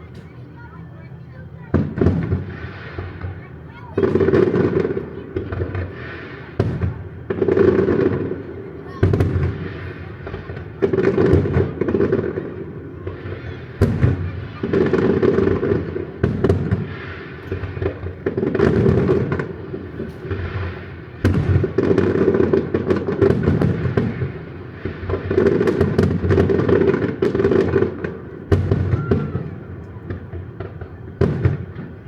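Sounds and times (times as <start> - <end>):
fireworks crackling: 0.0 - 32.0
fireworks booming: 1.3 - 32.0.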